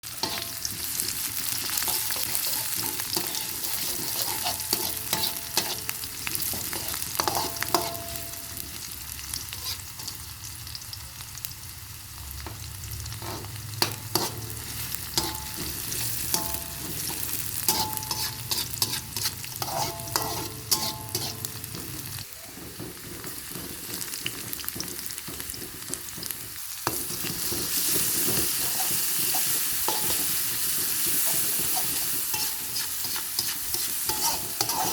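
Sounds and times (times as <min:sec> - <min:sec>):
food sizzling in oil: 0:00.0 - 0:34.9
spatula scraping a pan: 0:00.1 - 0:10.2, 0:13.1 - 0:22.1, 0:23.0 - 0:34.9.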